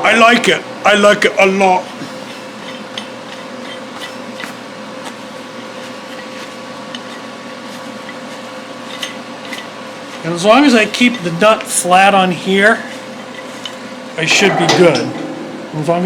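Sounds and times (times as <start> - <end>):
workshop hum and hiss: 0.0 - 16.0.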